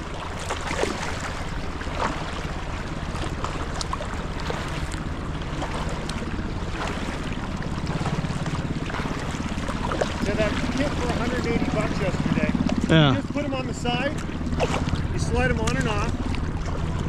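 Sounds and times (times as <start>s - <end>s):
paddle splashing in water: 0.0s - 17.0s.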